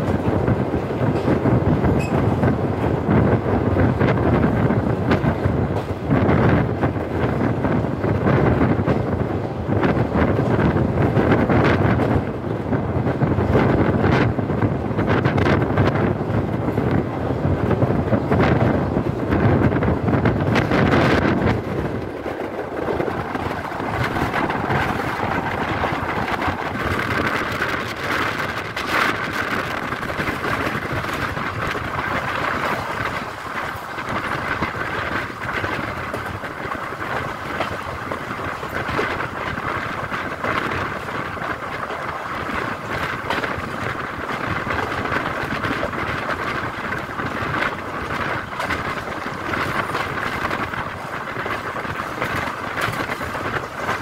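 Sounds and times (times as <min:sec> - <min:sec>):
train wheels rolling on rail: 0:00.0 - 0:54.0.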